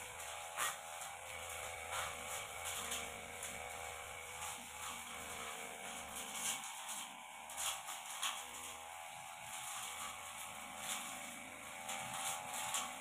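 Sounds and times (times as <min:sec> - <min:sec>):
brush cutter running: 0:00.0 - 0:13.0.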